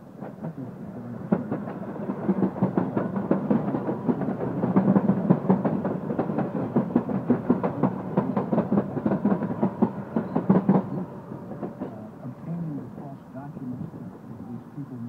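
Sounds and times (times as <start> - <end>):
train wheels clattering on rails: 0.1 - 14.3.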